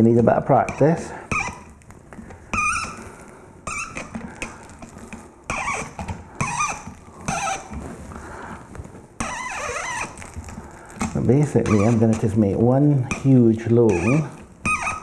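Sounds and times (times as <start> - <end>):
sausage stuffer crank squeaking: 0.0 - 8.6, 9.2 - 15.0
sausage mixture squelching: 0.0 - 15.0.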